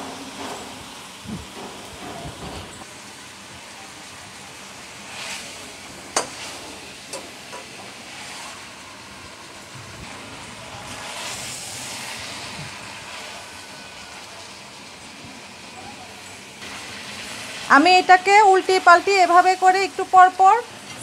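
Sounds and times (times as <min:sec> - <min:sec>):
chicken sizzling in oil: 0:02.8 - 0:21.0.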